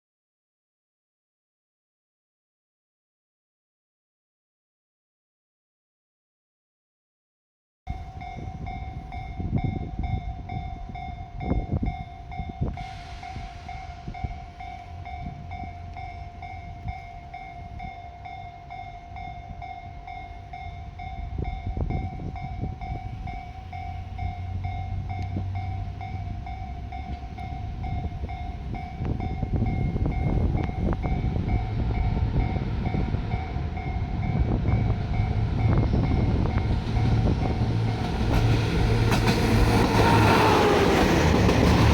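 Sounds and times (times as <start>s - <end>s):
diesel train running: 7.9s - 41.9s.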